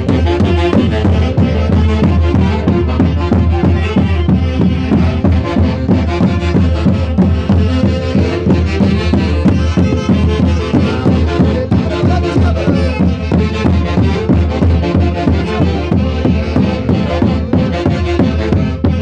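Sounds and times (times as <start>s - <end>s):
live band music with steady beat: 0.0s - 19.0s.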